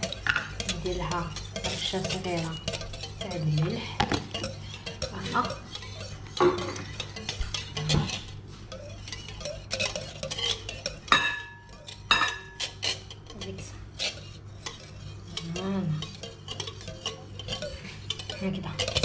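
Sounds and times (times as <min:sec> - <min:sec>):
whisk beating batter in glass bowl: 0:00.0 - 0:19.0
whisk clinking against bowl: 0:00.0 - 0:19.0.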